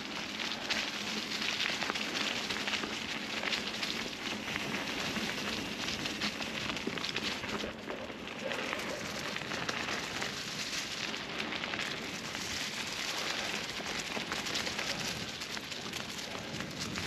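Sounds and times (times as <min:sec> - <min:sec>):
bike tyres crunching dry leaves: 0:00.0 - 0:17.0.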